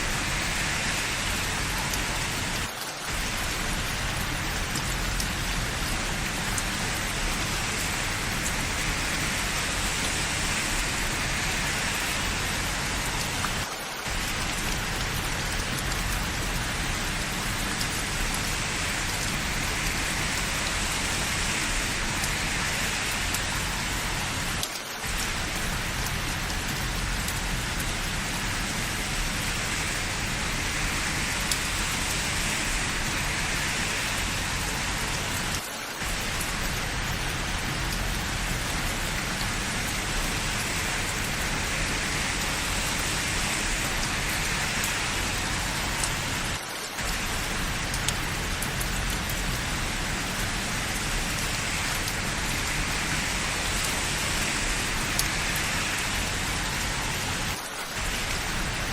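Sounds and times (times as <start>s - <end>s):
rain on hard surfaces: 0.0s - 58.9s.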